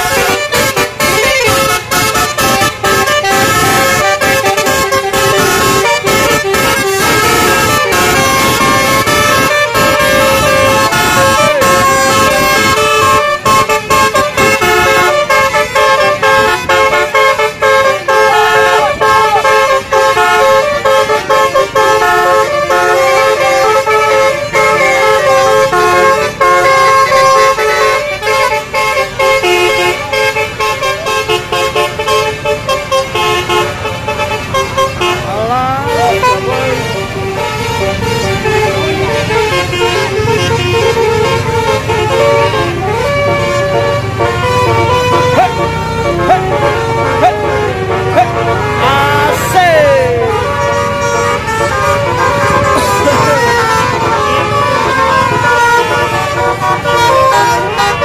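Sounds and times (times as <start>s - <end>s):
multi-tone bus horn tune: 0.0s - 58.0s.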